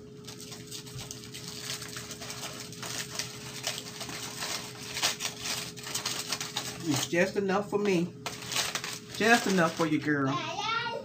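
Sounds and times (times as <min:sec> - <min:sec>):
aluminium foil crinkling: 0:00.0 - 0:10.1.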